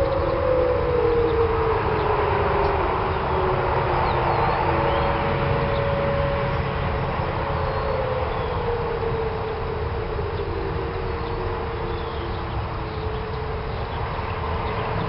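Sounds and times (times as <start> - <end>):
low outdoor rumble: 0.0 - 15.0
warning siren winding down: 0.0 - 15.0.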